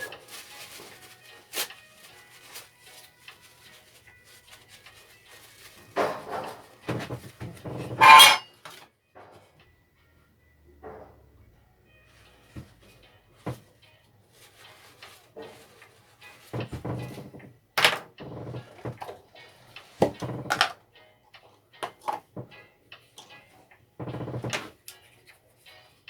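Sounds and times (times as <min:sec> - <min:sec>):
background song: 0:00.0 - 0:26.0.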